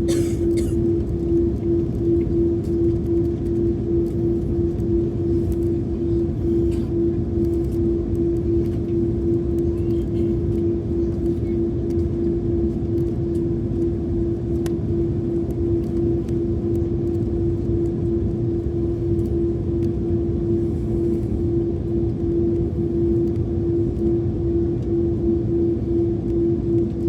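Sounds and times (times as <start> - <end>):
airliner cabin rumble: 0.0 - 27.0
steady hum: 0.0 - 27.0.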